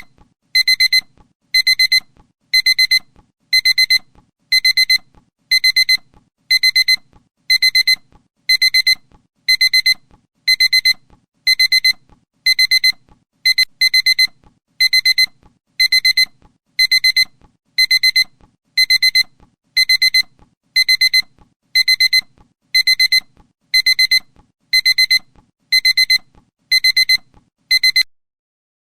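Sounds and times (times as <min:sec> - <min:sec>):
electronic alarm beeping: 0:00.0 - 0:28.1.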